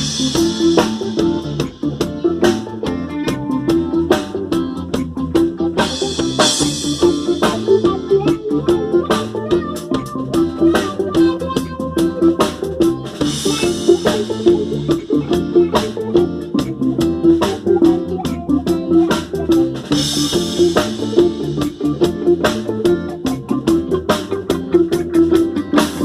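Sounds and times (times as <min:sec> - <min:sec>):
band playing instrumental: 0:00.0 - 0:26.0
drum kit beat: 0:00.0 - 0:26.0.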